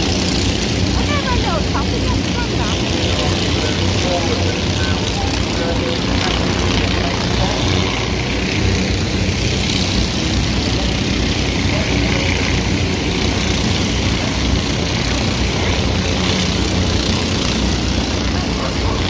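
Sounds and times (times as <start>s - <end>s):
racing kart engines droning: 0.0s - 19.0s.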